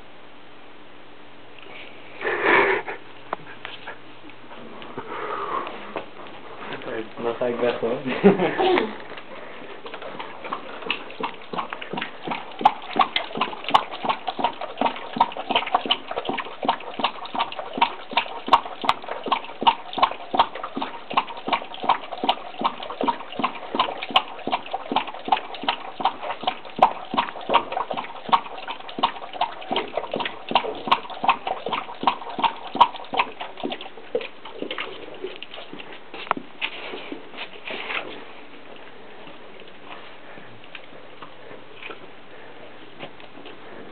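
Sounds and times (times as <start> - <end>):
dog lapping water: 6.8 - 42.5.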